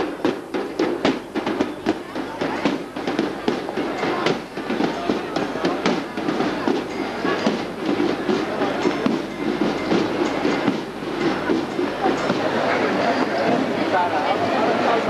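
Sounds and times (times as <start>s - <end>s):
busy background voices: 0.0s - 15.0s.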